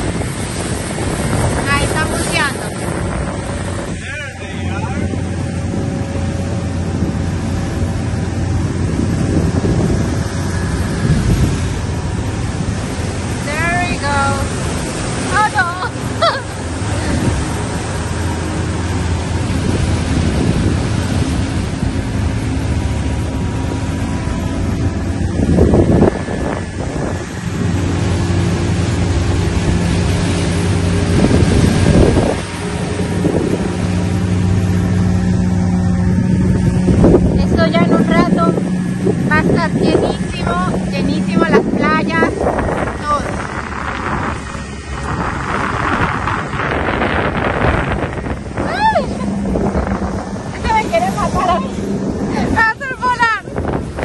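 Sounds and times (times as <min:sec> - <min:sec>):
boat engine humming: 0:00.0 - 0:54.0
wind buffeting microphone: 0:00.0 - 0:54.0.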